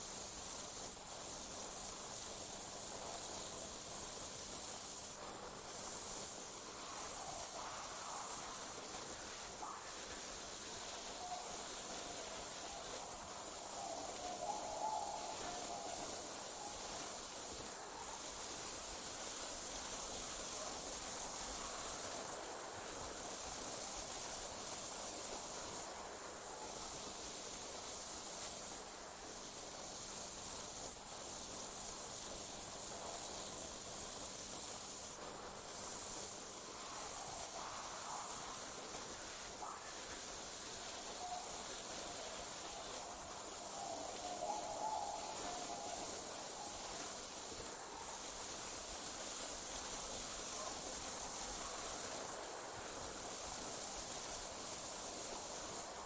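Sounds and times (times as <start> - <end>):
crickets trilling: 0.0 - 56.0
night insects: 0.0 - 56.0.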